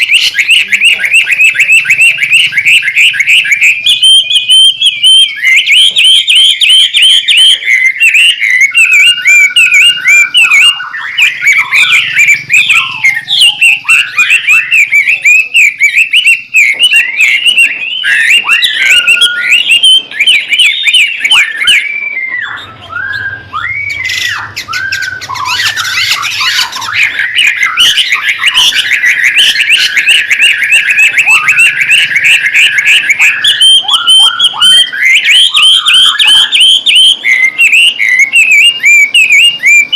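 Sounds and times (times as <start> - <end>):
songbird singing varied whistles: 0.0 - 39.9.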